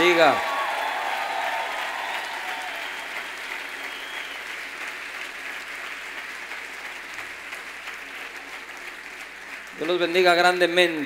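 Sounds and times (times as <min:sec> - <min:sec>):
large crowd applauding: 0:00.0 - 0:11.0.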